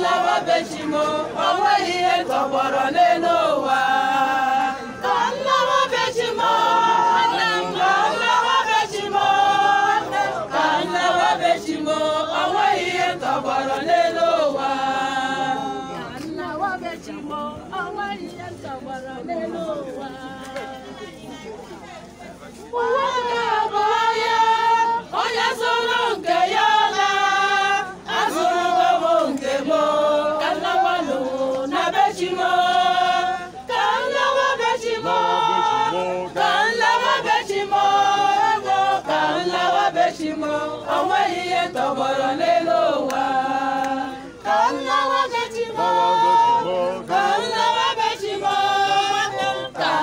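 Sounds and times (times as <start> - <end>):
church choir singing: 0.0 - 21.2, 22.7 - 50.0.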